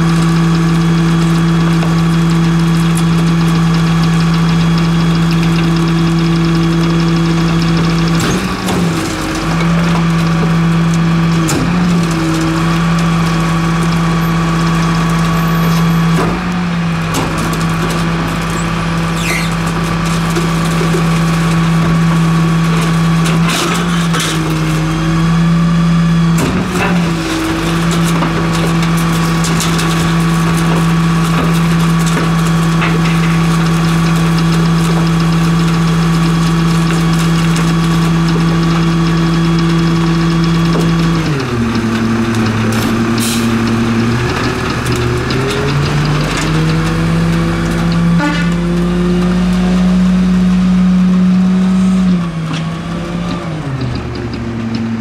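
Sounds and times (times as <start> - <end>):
garbage truck diesel engine running: 0.0 - 55.0.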